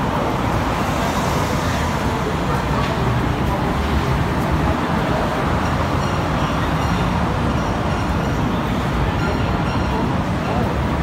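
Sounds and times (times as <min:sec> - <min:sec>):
city road traffic rumble: 0:00.0 - 0:11.0.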